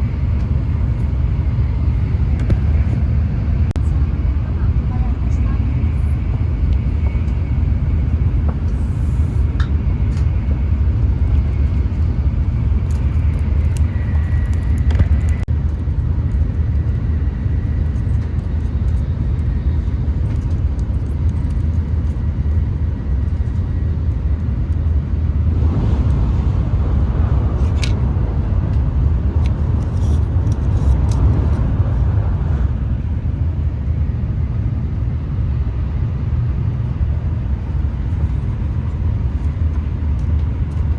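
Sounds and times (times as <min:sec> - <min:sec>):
train rumble inside cabin: 0:00.0 - 0:40.9.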